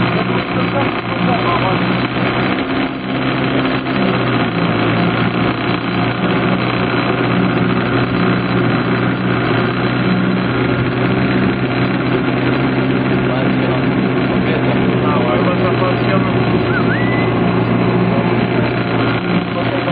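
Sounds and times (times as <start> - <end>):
engine humming steadily: 0.0 - 19.9.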